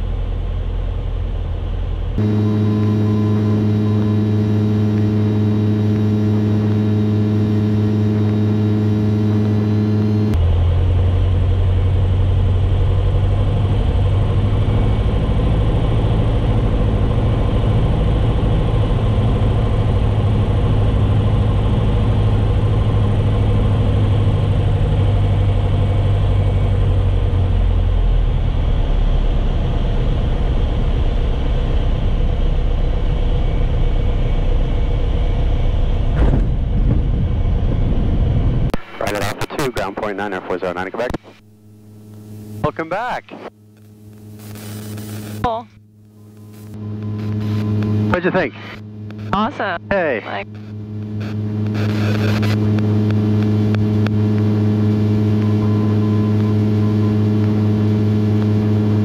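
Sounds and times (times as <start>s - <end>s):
airplane engine and propeller droning: 0.0s - 59.0s.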